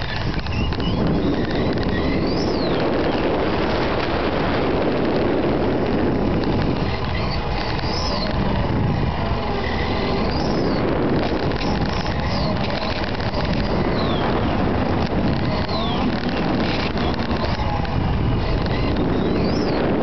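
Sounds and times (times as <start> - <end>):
model car tyre and drivetrain rush: 0.0 - 20.0.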